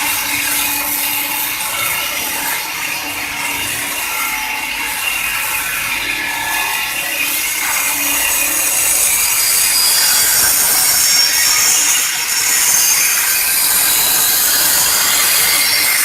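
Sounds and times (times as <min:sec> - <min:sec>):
machine bit grinding stone: 0:00.0 - 0:16.0.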